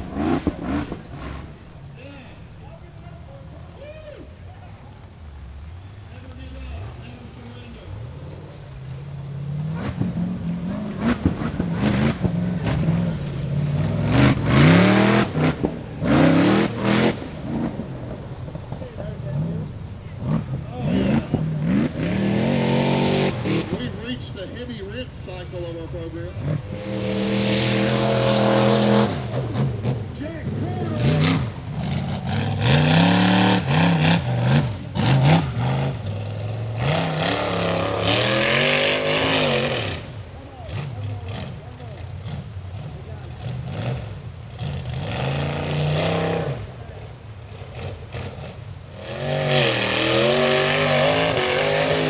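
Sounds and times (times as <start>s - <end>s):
buggy engine rumbling and revving: 0.0s - 52.0s.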